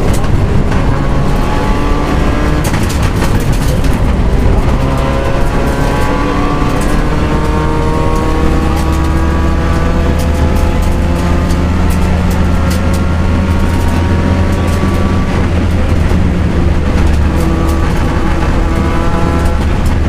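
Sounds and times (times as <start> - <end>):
rally car engine running hard: 0.0 - 20.0.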